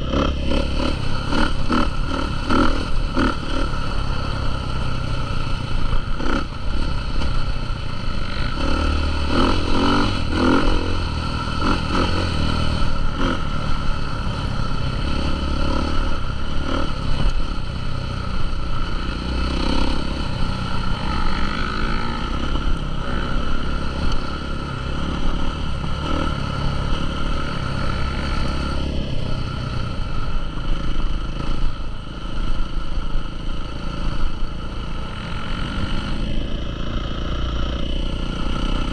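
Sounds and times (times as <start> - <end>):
motocross motorcycle engines revving: 0.0 - 38.9.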